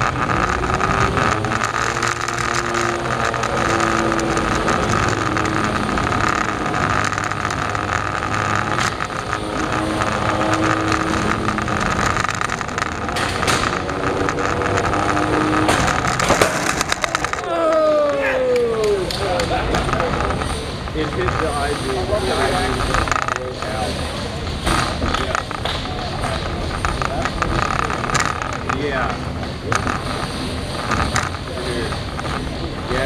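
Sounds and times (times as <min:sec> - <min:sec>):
lower motor whines: 0:00.0 - 0:33.0
steady high motor whine: 0:00.0 - 0:33.0.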